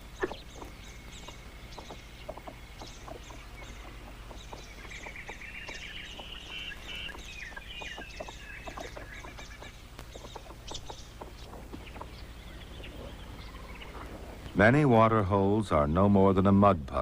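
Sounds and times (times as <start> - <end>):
birds calling: 0.0 - 17.0
steady low hum: 0.0 - 17.0.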